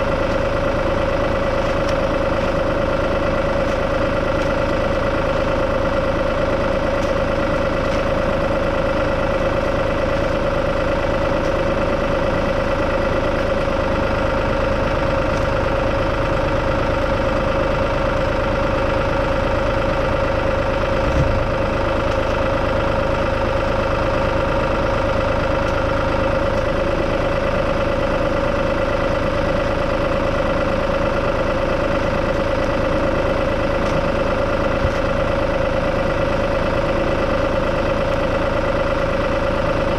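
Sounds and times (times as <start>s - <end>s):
constant whine: 0.0s - 39.9s
tractor engine running: 0.0s - 39.9s.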